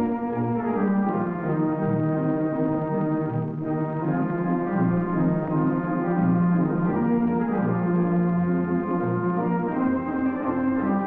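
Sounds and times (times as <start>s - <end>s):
theatre organ chords: 0.0s - 11.0s.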